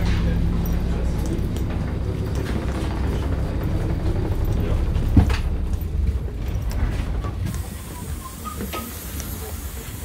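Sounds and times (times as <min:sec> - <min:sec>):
train machinery low rumble: 0:00.0 - 0:10.0.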